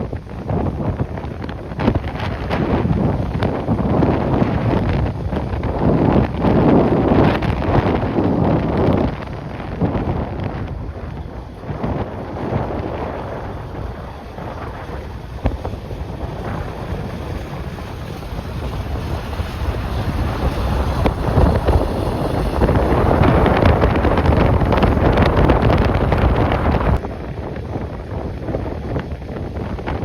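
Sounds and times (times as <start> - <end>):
gusty wind buffeting microphone: 0.0 - 30.0.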